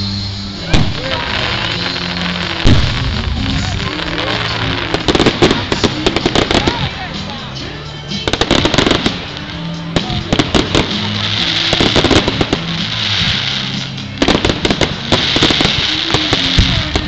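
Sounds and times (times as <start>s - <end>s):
crackling hiss: 0.0s - 17.0s
fireworks bangs and crackles: 0.0s - 17.0s
music: 0.0s - 17.0s.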